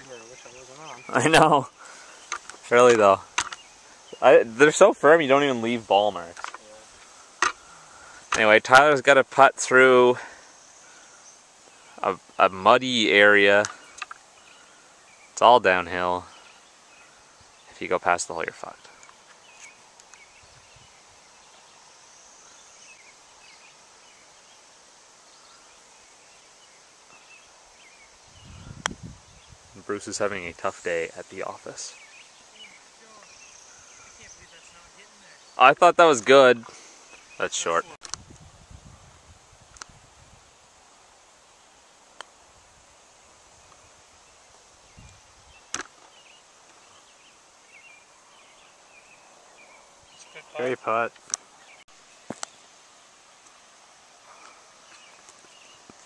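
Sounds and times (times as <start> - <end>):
faint bird chirps: 0.0 - 38.0, 43.5 - 53.5
faint outdoor background noise: 0.0 - 56.0.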